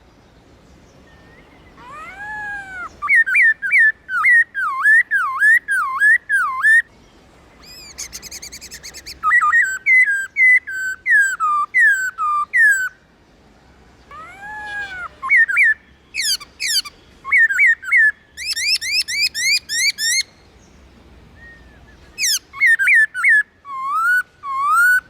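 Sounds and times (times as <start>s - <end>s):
bird singing whistled notes: 1.0s - 6.9s, 7.6s - 13.0s, 14.1s - 20.6s, 21.3s - 25.0s.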